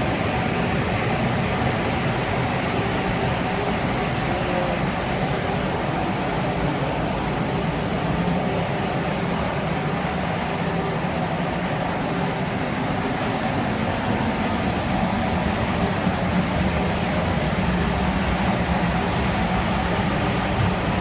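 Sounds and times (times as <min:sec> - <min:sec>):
constant low hum: 0:00.0 - 0:21.0
ventilation fans rushing: 0:00.0 - 0:21.0.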